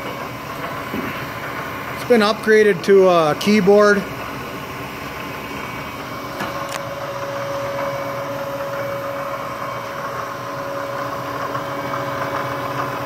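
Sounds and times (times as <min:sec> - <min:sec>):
mid-pitched machine whine: 0:00.0 - 0:13.0
mill motor hum: 0:00.0 - 0:13.0.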